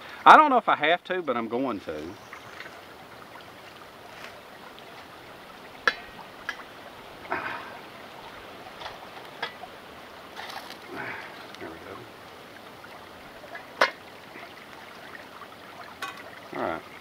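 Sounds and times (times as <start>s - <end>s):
creek running: 0.0s - 17.0s.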